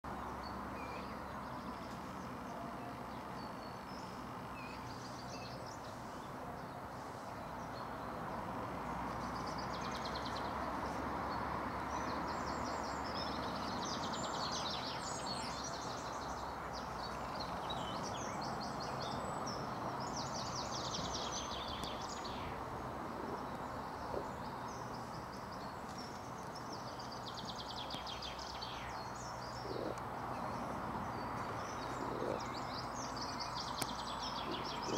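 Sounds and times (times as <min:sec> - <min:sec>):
small birds singing in trills: 0:00.0 - 0:34.9.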